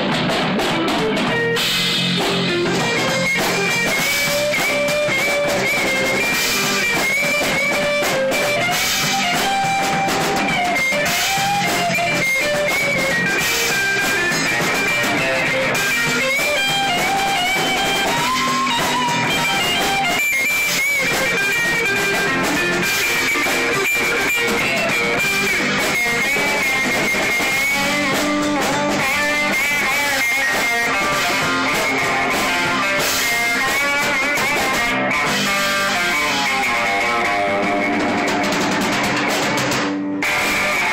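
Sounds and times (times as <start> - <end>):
electric guitar strummed: 0.0 - 40.9
rock band playing live: 0.0 - 40.9.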